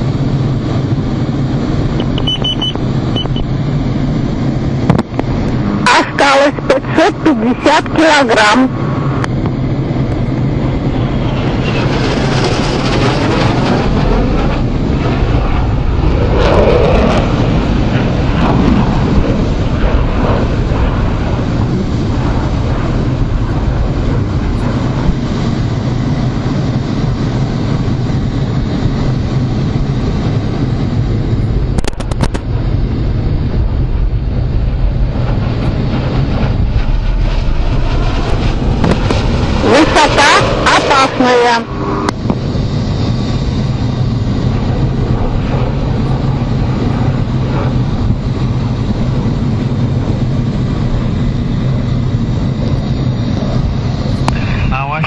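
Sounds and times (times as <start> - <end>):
jet engines and airflow rush: 0.0 - 55.0
low steady hum: 0.0 - 55.0.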